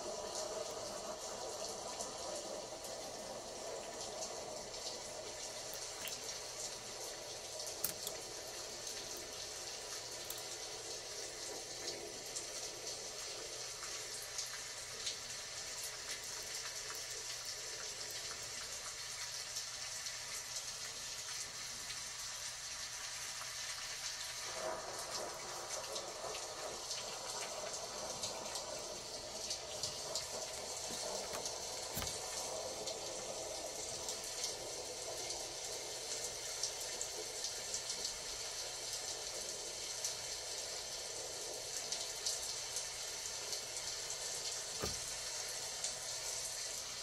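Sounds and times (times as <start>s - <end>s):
steady rain pattering: 0.0s - 47.0s.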